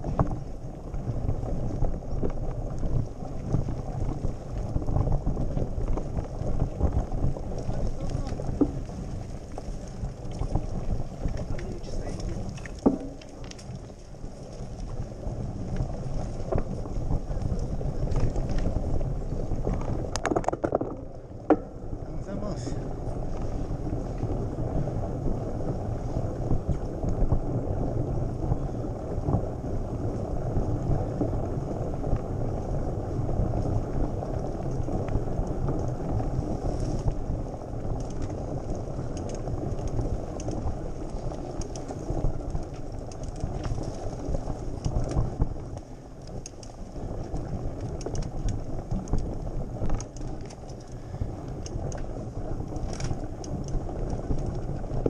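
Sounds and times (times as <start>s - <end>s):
bike tyre and frame rumble: 0.0s - 55.0s
wind on microphone: 0.0s - 55.0s.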